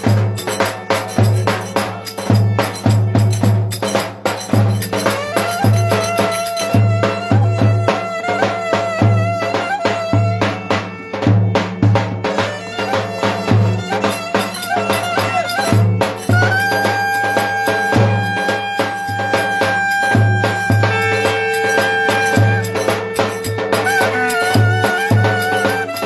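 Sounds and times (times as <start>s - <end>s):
reedy wind instrument melody: 0.0s - 26.0s.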